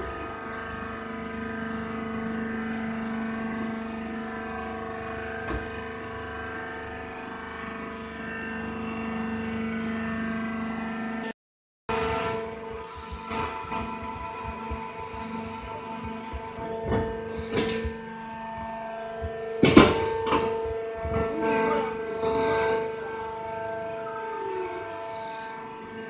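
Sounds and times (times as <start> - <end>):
hydraulic pump motor humming: 0.0 - 11.3, 11.9 - 26.0.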